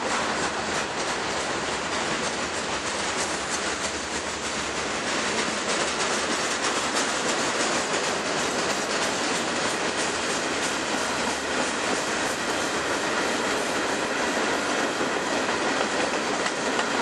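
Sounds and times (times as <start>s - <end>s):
freight train wheels rumbling: 0.0s - 17.0s
wheels clicking over rail joints: 0.0s - 17.0s.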